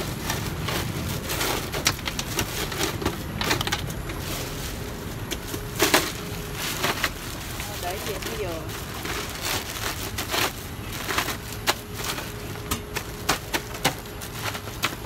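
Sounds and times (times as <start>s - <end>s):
plastic bag crinkling: 0.0s - 15.0s
steady low hum: 0.0s - 15.0s.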